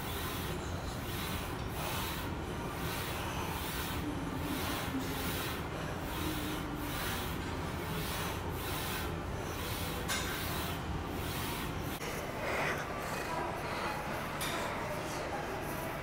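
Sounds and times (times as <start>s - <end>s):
exercise machine rubbing and whooshing: 0.0s - 14.3s
steady background hum: 0.0s - 16.0s.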